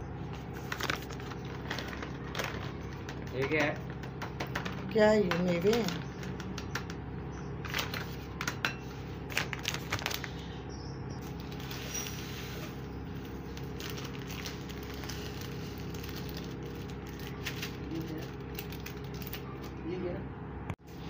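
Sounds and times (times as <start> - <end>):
steady low hum: 0.0 - 21.0
plastic bags rustling: 0.2 - 6.6, 7.6 - 10.6, 11.2 - 19.8.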